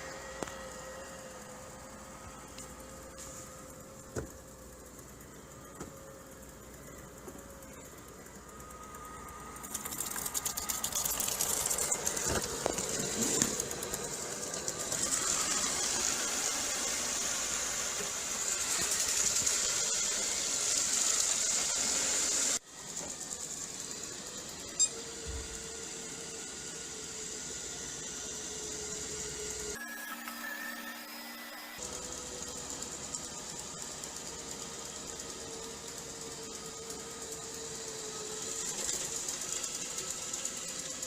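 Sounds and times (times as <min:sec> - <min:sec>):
robot vacuum cleaner whirring: 0:00.0 - 0:41.0.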